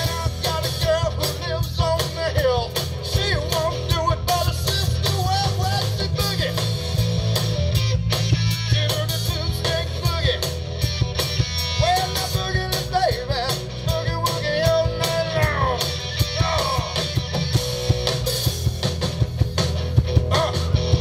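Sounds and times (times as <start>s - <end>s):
drums and cymbals: 0.0s - 21.0s
electric bass: 0.0s - 21.0s
live rock band playing: 0.0s - 21.0s.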